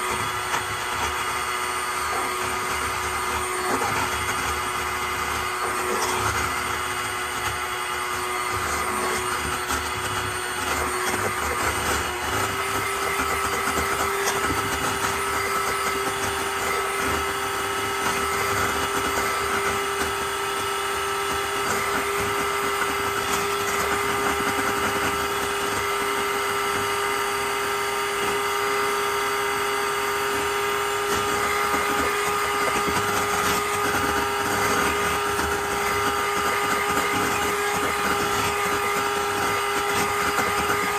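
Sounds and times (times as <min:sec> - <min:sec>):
electric hand mixer running: 0:00.0 - 0:40.9.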